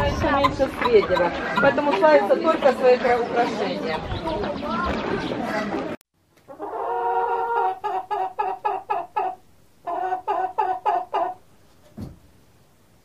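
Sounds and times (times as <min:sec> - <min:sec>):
chicken calling and clucking: 0:00.0 - 0:05.8, 0:06.4 - 0:11.8.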